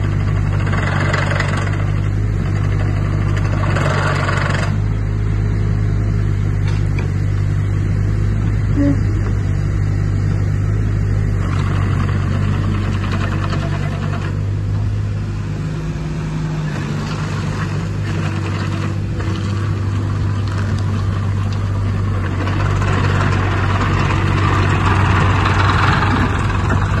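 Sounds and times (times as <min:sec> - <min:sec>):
diesel excavator engine running: 0:00.0 - 0:27.0.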